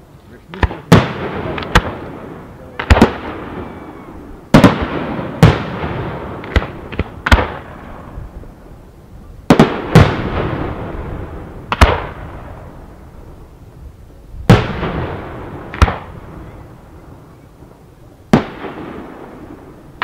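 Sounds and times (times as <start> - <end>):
firework bangs with rolling echo: 0.5 - 8.7, 9.4 - 13.6, 14.4 - 20.0.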